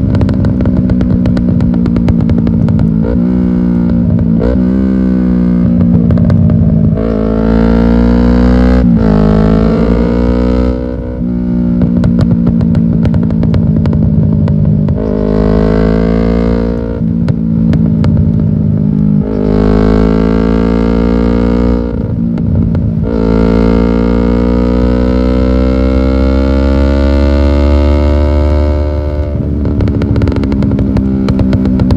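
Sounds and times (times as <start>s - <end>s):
exhaust crackling: 0.0s - 25.6s, 26.2s - 31.9s
sportbike engine revving: 0.0s - 31.9s.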